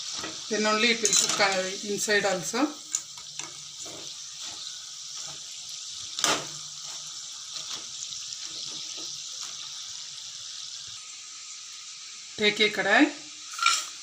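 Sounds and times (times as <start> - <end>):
dough deep-frying in oil: 0.0 - 14.0.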